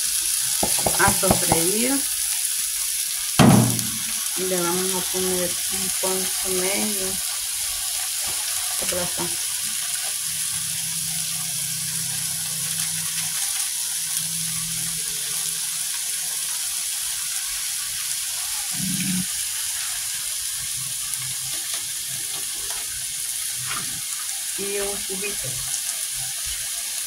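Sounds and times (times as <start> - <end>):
rice sizzling in hot oil: 0.0 - 27.0.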